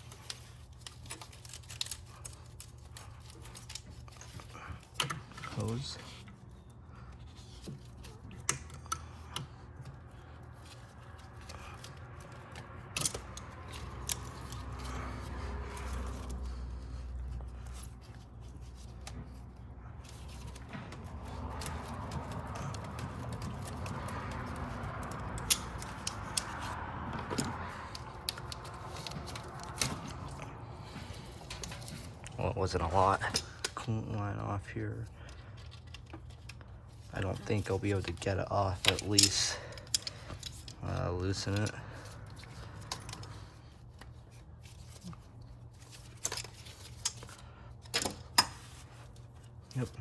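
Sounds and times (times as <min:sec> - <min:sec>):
tools and metal parts clicking: 0:00.0 - 0:34.1, 0:34.9 - 0:50.0.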